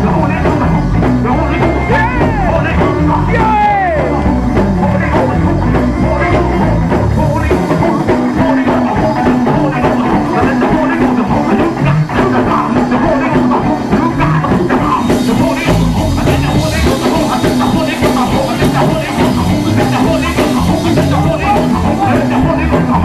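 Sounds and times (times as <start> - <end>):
church band playing worship music: 0.0 - 23.0
drum kit beat: 0.0 - 23.0.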